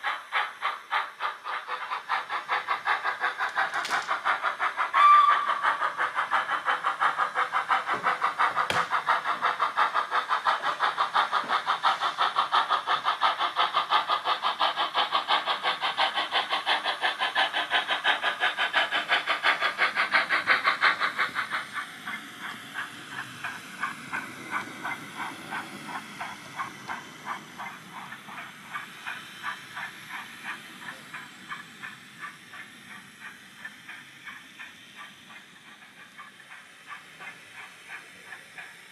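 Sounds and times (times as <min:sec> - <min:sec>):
model train steam chuffs: 0:00.0 - 0:38.9.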